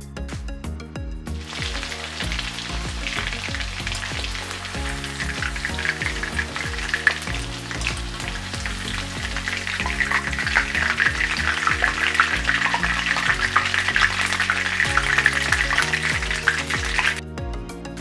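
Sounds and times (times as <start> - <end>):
background music: 0.0 - 18.0
chicken deep-frying in hot oil: 1.4 - 17.2.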